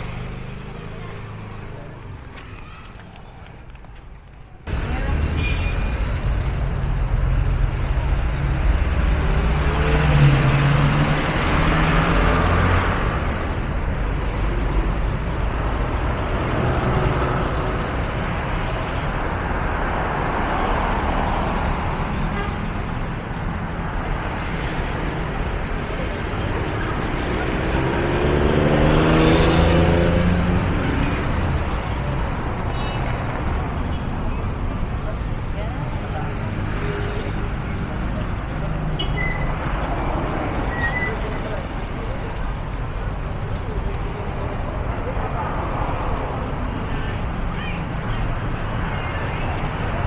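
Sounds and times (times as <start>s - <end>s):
traffic hum: 0.0s - 50.0s.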